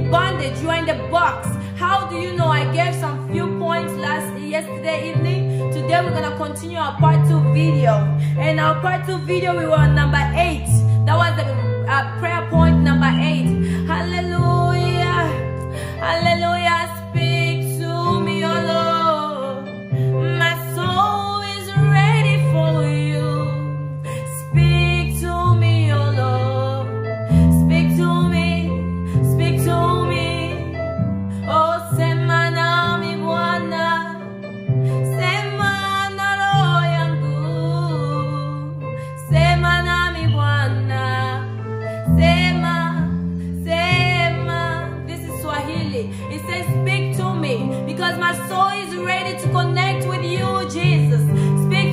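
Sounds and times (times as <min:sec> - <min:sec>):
woman singing: 0:00.0 - 0:51.9.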